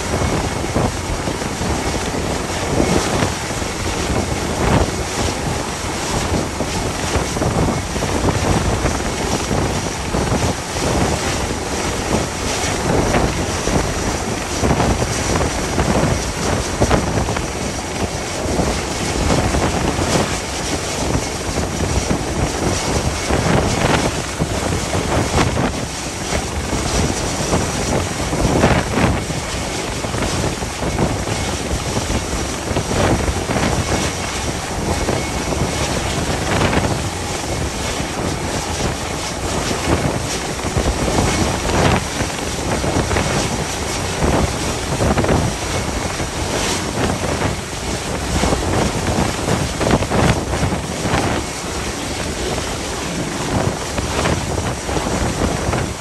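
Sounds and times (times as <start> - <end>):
sea rushing: 0.0 - 56.0
wind buffeting microphone: 0.0 - 56.0.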